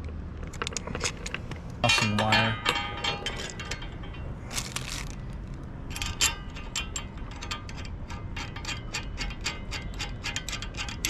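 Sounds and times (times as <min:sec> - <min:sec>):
rapid metallic clicking: 0:00.0 - 0:11.0
metal scraping: 0:00.6 - 0:11.0.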